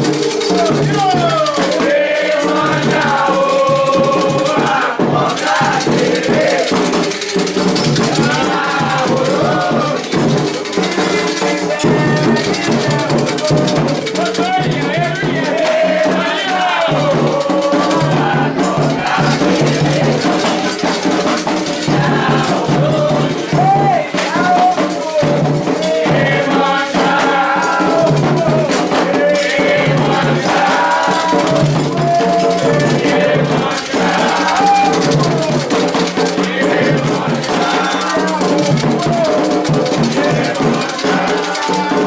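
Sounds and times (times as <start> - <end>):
percussion: 0.0 - 42.0
shaken rattles: 0.0 - 42.0
voices chanting: 0.0 - 42.0.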